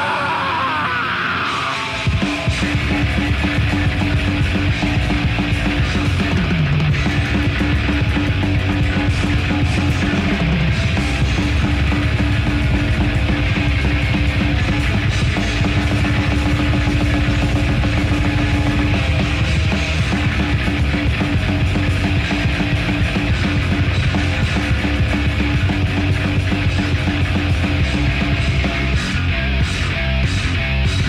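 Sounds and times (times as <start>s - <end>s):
death metal band playing: 0.0s - 31.0s.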